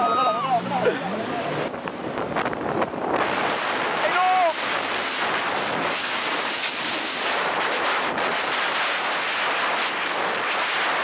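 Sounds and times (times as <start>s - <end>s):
water rushing past jet ski: 0.0s - 11.0s
wind buffeting microphone: 0.0s - 11.0s.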